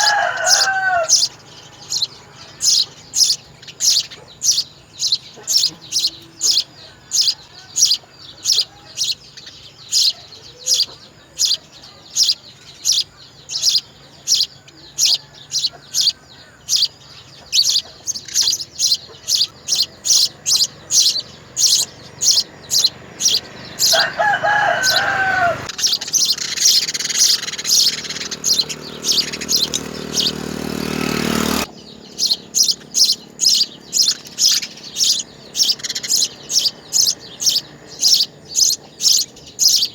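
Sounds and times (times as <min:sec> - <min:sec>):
nestling birds chirping: 0:00.0 - 0:39.9.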